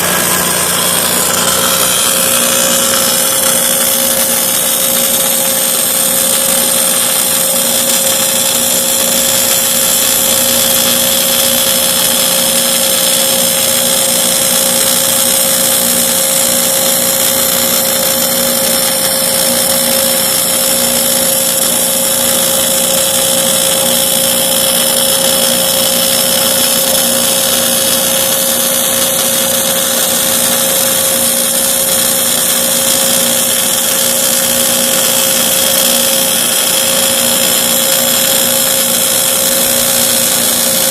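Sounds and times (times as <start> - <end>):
boring machine whining: 0.0 - 40.9.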